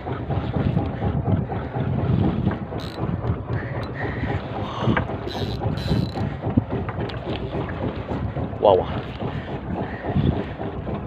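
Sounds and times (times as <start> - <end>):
faint sea noise: 0.0 - 11.0
wind buffeting microphone: 0.0 - 11.0.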